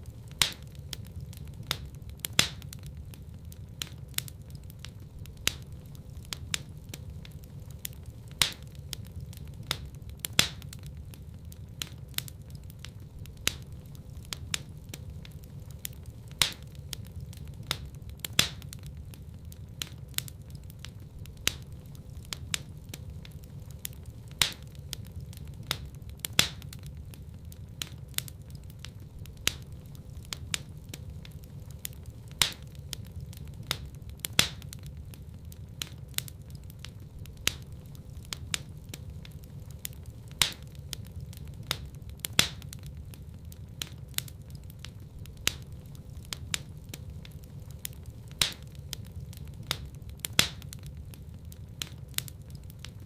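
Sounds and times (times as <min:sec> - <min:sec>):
low rumble of flames: 0:00.0 - 0:53.0
wood fire popping and snapping: 0:00.0 - 0:53.0.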